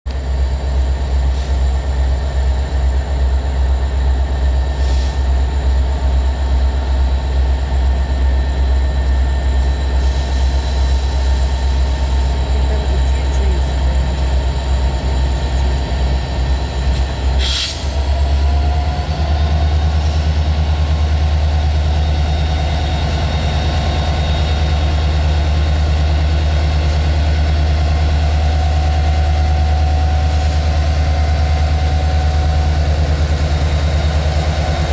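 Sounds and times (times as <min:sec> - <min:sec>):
diesel locomotive engine rumble: 0:00.1 - 0:34.9.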